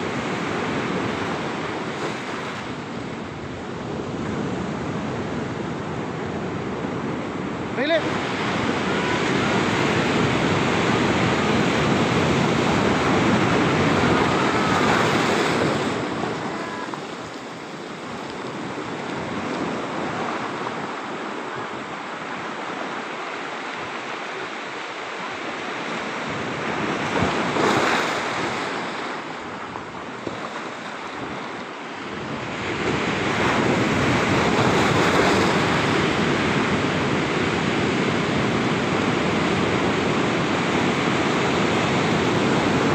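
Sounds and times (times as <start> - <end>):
surf breaking on rocky beach: 7.7 - 42.9.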